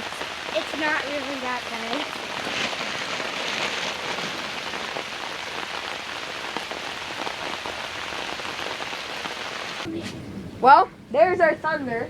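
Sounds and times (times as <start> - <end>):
hard rain falling: 0.0 - 9.9.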